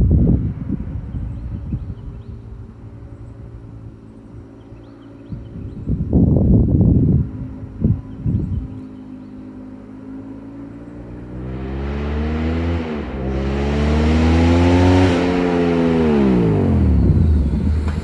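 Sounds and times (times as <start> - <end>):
motorcycle accelerating and passing: 0.0 - 18.0.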